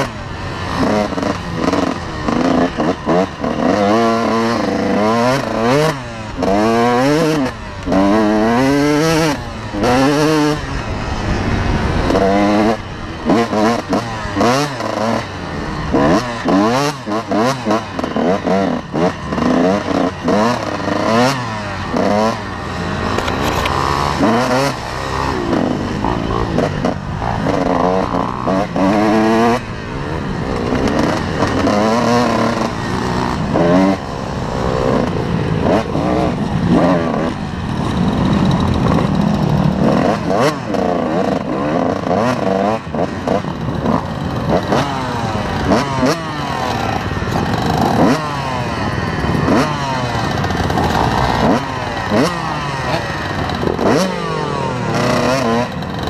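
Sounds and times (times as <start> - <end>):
two-stroke motorcycle engine revving: 0.0 - 56.0.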